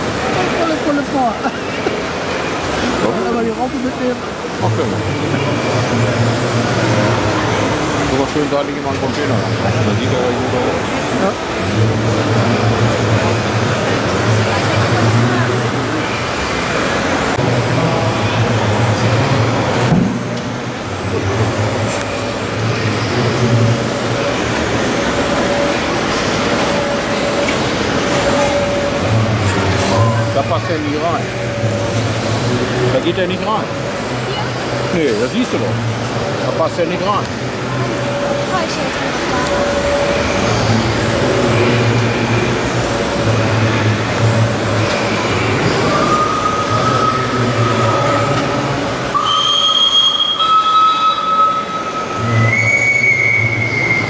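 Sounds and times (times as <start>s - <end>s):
thin steady whine: 0.0s - 54.0s.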